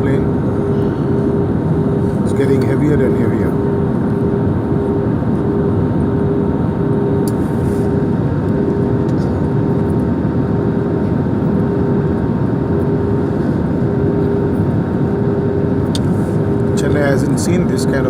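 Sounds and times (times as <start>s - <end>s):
airliner cabin roar: 0.0s - 18.0s
constant low hum: 0.0s - 18.0s.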